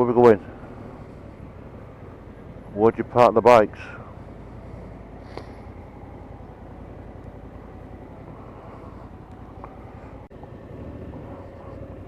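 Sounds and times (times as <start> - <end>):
motorcycle engine rumbling: 0.0 - 12.0
road and wind noise: 0.0 - 12.0.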